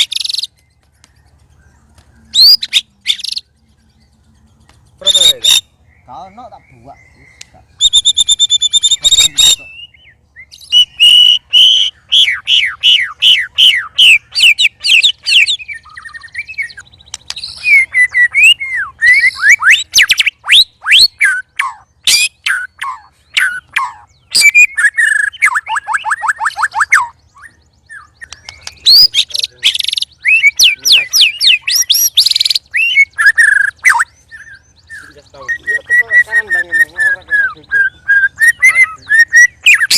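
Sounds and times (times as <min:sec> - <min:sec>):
birds singing whistled notes: 0:00.0 - 0:39.9.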